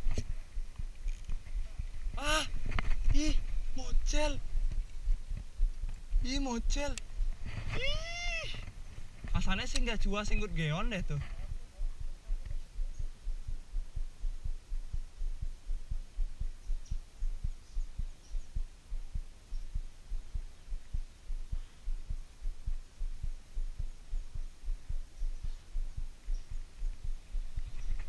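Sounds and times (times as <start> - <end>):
dull low thumps: 0.0 - 28.0.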